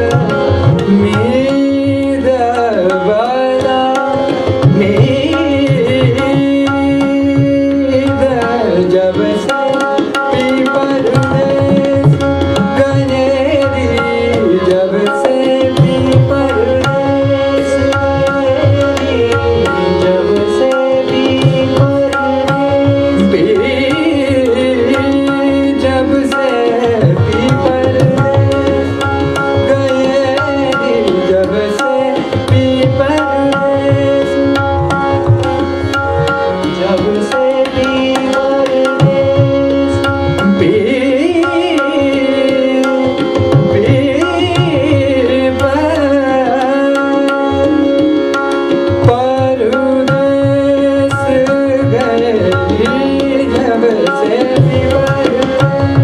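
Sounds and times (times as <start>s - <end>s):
harmonium: 0.0s - 56.0s
man singing: 0.0s - 56.0s
tabla playing: 0.0s - 56.0s
tanpura drone: 0.0s - 56.0s.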